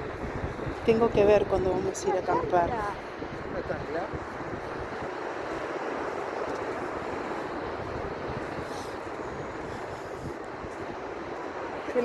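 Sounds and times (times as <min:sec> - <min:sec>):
ocean surf: 0:00.0 - 0:12.0
wind blowing over microphone: 0:00.0 - 0:12.0.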